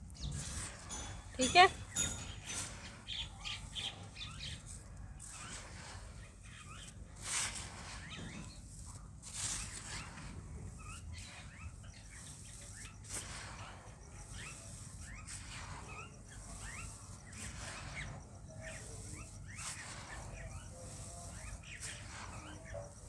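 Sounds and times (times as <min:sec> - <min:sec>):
hands swishing through dry dirt: 0:00.0 - 0:00.9, 0:02.5 - 0:23.0
small birds chirping: 0:00.0 - 0:23.0.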